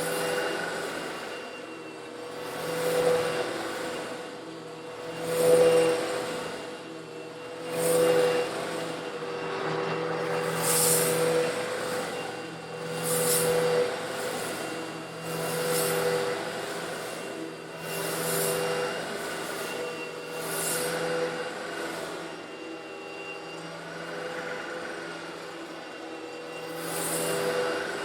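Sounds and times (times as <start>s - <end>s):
vacuum cleaner motor hum: 0.0s - 28.0s.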